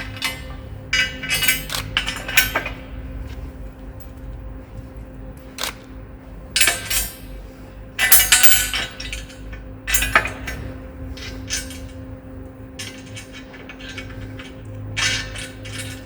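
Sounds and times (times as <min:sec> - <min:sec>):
steel tools clinking and rattling: 0:00.0 - 0:05.9, 0:06.6 - 0:07.4, 0:08.0 - 0:16.0
faint steady hum: 0:00.0 - 0:16.0.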